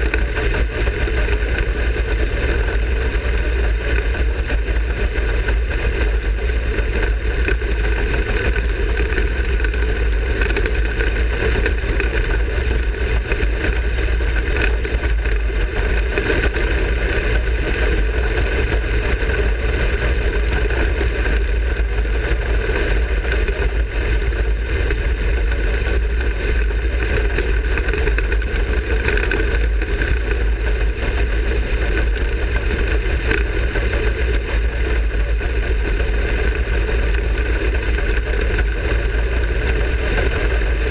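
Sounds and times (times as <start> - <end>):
race car engine running: 0.0 - 40.9.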